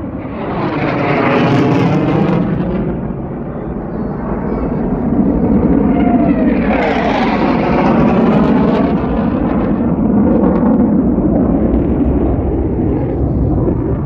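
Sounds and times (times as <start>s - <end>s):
fighter jet passing overhead: 0.0s - 14.0s.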